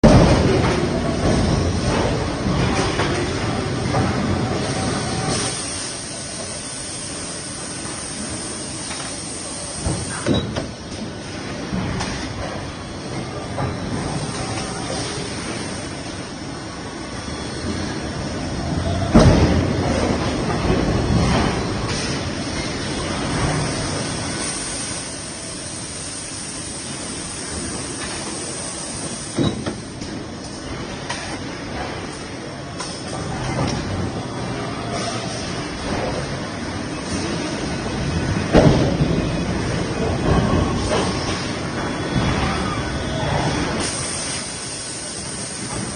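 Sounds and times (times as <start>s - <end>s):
machinery hissing din: 0.0s - 45.9s.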